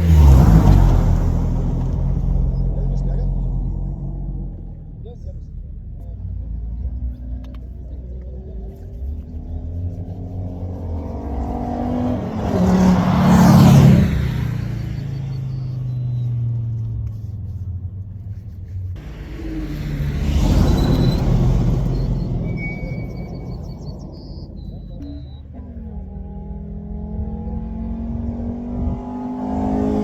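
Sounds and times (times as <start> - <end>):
race car passing by: 0.0 - 17.4, 18.4 - 30.0.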